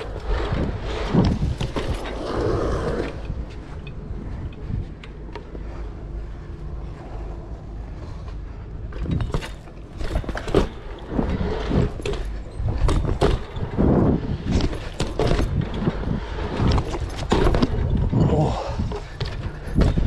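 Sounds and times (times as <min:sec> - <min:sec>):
bike knocking and rattling: 0:00.0 - 0:20.0
bike tyres rumbling on concrete: 0:00.0 - 0:20.0.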